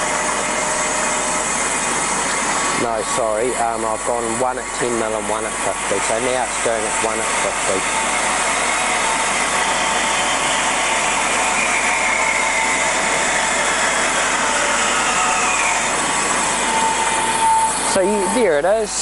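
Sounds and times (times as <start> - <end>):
bandsaw running: 0.0 - 18.8.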